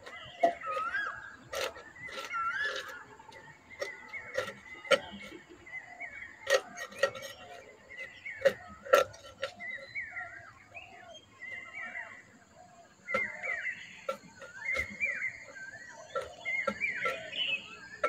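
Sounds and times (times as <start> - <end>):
knife scraping fish scales: 0.0 - 10.2, 13.1 - 18.0
birds chirping: 0.0 - 18.0.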